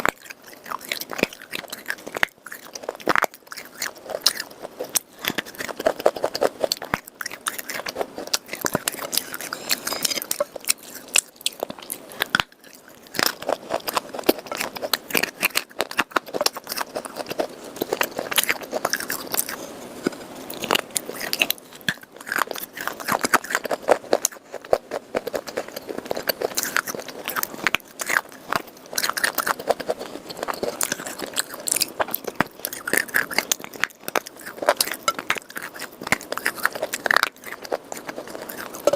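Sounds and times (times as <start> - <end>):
person chewing crunchy clay: 0.0 - 38.9.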